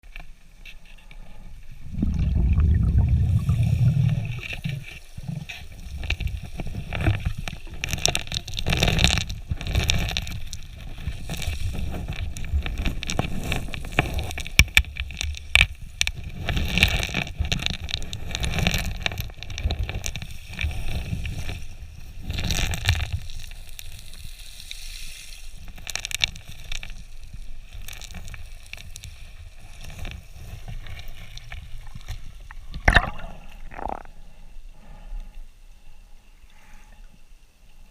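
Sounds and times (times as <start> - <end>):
underwater rushing and gurgling: 0.9 - 23.5, 25.6 - 35.2.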